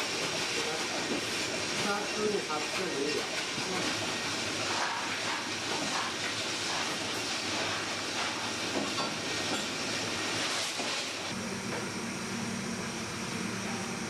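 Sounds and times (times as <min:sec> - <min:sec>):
machine hiss and rumble: 0:00.0 - 0:14.0.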